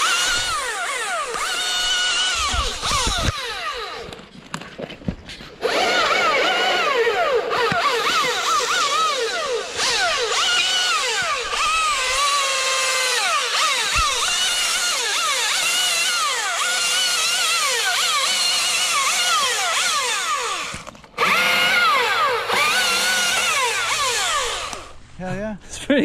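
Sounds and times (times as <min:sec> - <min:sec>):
electric chainsaw cutting wood: 0:00.0 - 0:25.0.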